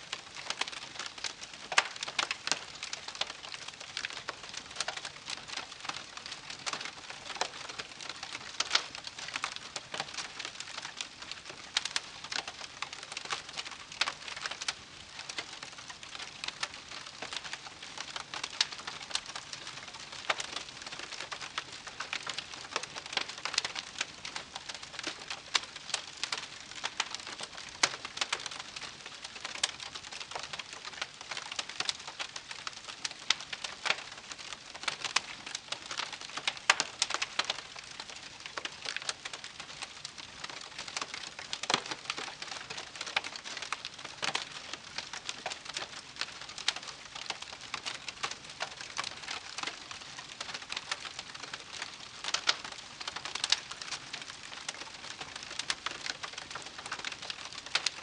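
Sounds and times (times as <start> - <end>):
campfire crackling: 0.1 - 58.0.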